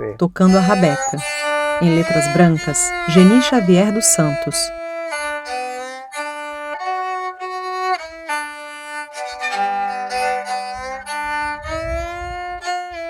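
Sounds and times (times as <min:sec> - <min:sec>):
bowed fiddle melody: 0:00.4 - 0:13.0.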